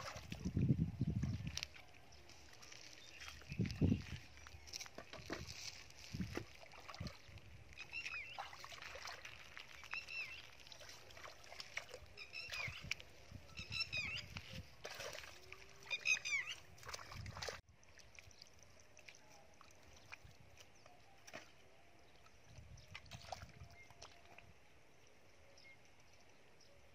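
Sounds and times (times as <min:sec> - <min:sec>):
hands splashing in muddy water: 0:00.0 - 0:21.6, 0:22.8 - 0:24.4.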